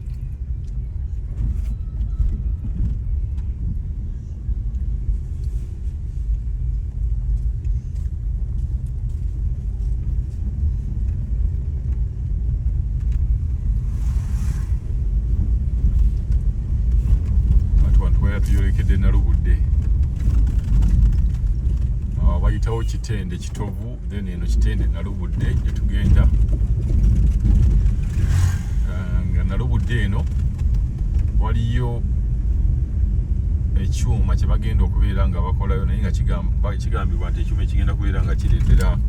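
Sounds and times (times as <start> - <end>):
vehicle road rumble: 0.0 - 39.0.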